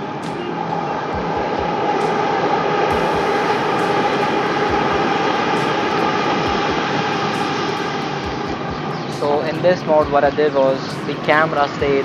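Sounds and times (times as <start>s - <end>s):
metro train rumbling past: 0.0s - 12.0s.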